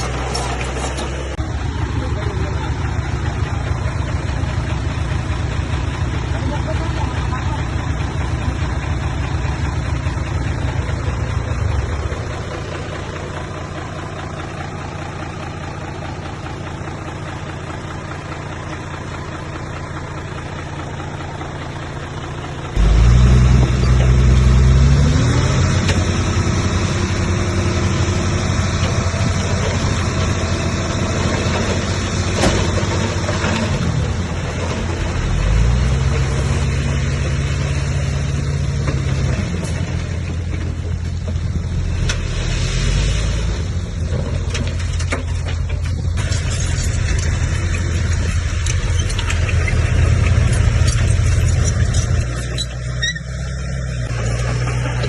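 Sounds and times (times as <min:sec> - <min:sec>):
heavy diesel machinery engine revving: 0:00.0 - 0:55.0.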